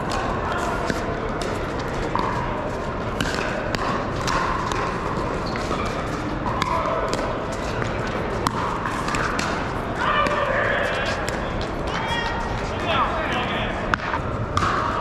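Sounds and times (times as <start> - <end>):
chatter and hits in a hall: 0.0 - 15.0.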